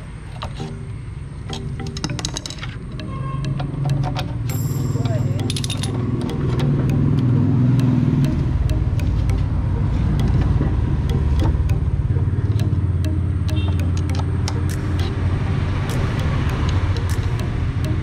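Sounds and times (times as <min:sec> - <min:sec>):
metallic tool clicks: 0:01.5 - 0:09.5, 0:10.1 - 0:18.0.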